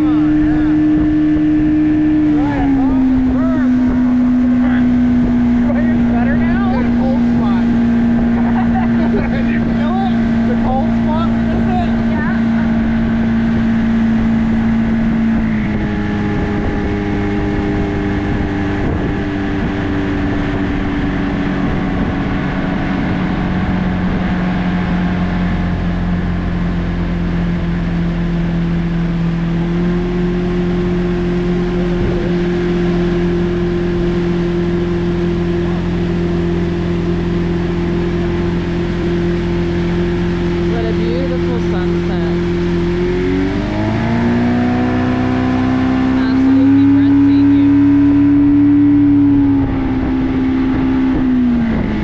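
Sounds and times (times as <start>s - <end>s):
motorboat engine running: 0.0s - 52.0s
water rushing past hull: 0.0s - 52.0s.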